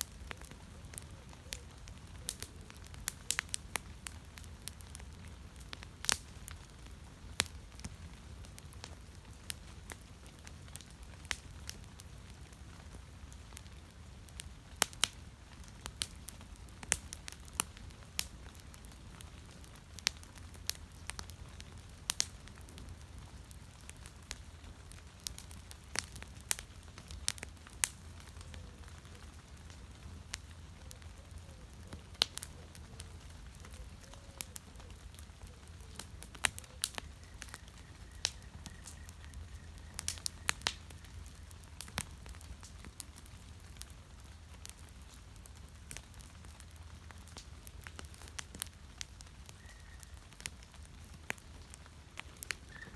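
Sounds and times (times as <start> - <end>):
fire crackling and popping: 0.0 - 52.9.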